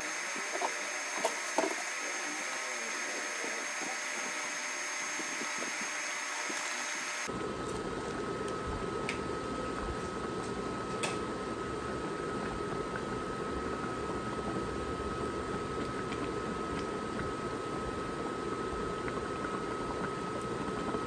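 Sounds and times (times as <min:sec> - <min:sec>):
broth simmering and bubbling: 0:00.0 - 0:21.0.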